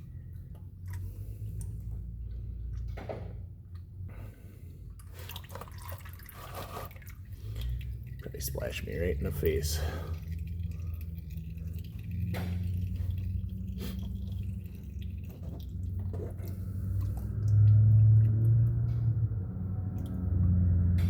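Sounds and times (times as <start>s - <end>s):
oil trickling and dripping: 0.0s - 21.0s.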